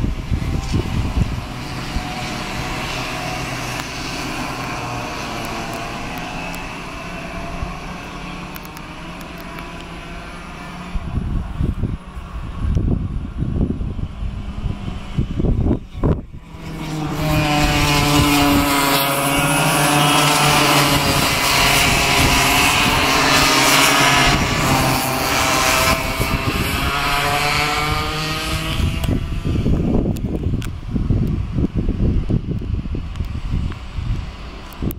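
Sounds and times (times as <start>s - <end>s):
kart engines buzzing past: 0.0s - 32.5s.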